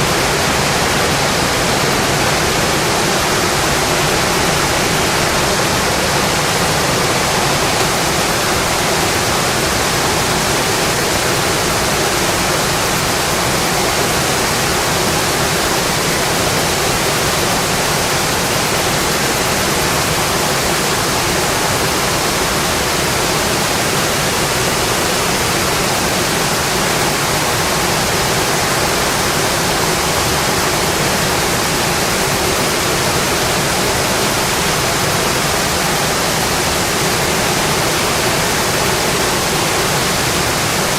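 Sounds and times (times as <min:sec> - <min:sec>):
rain on a windowpane: 0:00.0 - 0:40.9.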